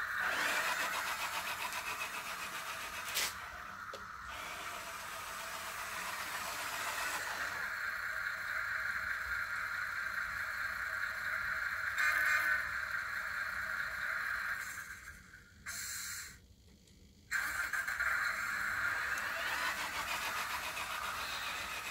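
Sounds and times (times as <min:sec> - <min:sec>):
toy truck motor whining: 0:00.0 - 0:16.4, 0:17.3 - 0:21.9.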